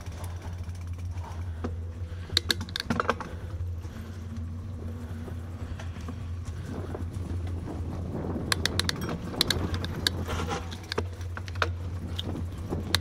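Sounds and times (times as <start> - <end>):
bicycle clicks and rattles: 0.0 - 13.0
bicycle rolling rumble: 0.0 - 13.0.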